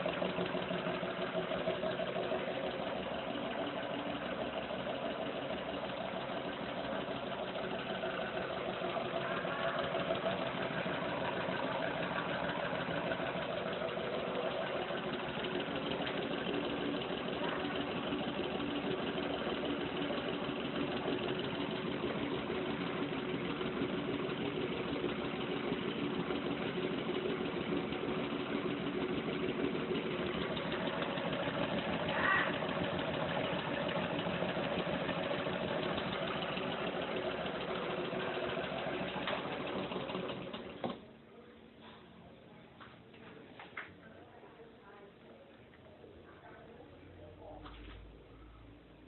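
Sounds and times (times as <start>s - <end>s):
small engine mechanical hum: 0.0s - 41.2s.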